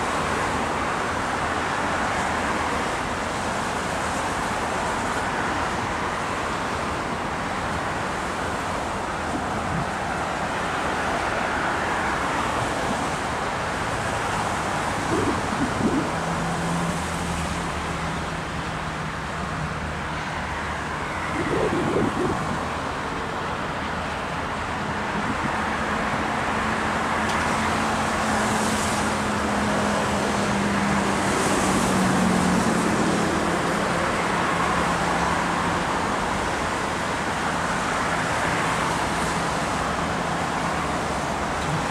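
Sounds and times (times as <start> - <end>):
city traffic noise: 0.0 - 41.9.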